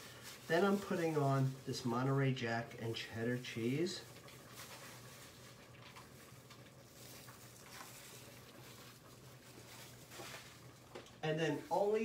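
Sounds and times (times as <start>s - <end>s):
shredded cheese sprinkling: 0.0s - 12.0s.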